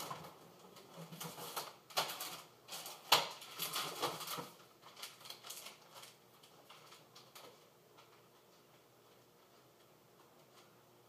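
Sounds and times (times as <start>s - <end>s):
household things being handled: 0.0s - 10.8s.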